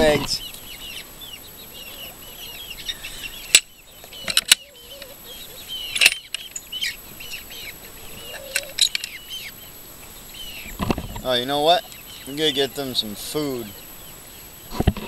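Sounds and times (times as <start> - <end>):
chickens chirping: 0.0 - 15.0.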